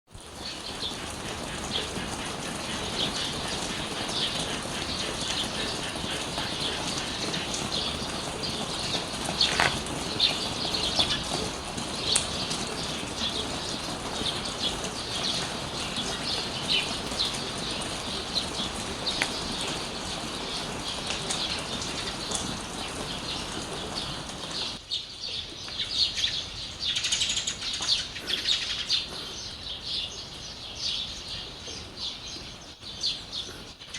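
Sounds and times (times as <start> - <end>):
rain hiss: 0.1 - 33.9
small birds chirping: 0.2 - 33.9.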